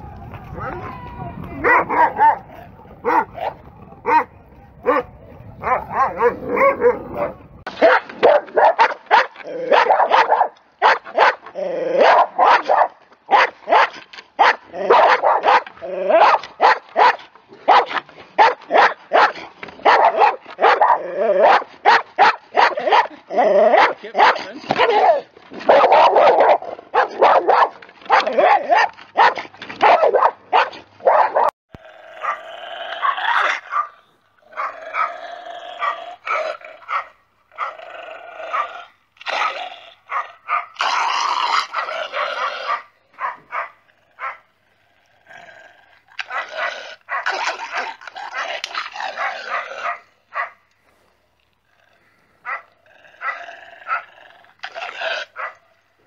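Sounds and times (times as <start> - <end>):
dog barking and growling: 1.6 - 50.6, 51.8 - 55.8.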